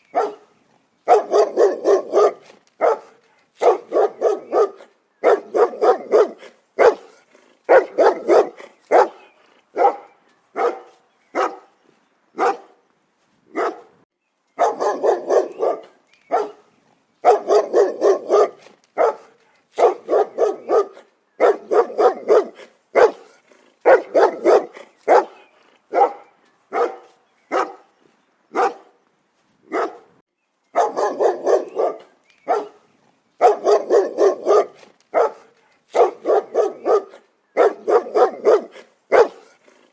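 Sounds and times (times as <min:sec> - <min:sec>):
dog barking: 0:00.1 - 0:00.5, 0:01.1 - 0:11.7, 0:12.4 - 0:12.8, 0:13.5 - 0:14.0, 0:14.6 - 0:27.9, 0:28.5 - 0:29.0, 0:29.7 - 0:30.1, 0:30.8 - 0:39.9.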